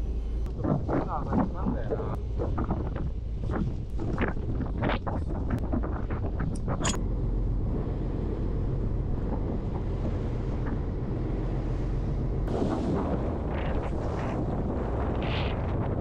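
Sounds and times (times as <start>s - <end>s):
boat engine rumbling: 0.0s - 16.0s
wind buffeting microphone: 0.4s - 16.0s.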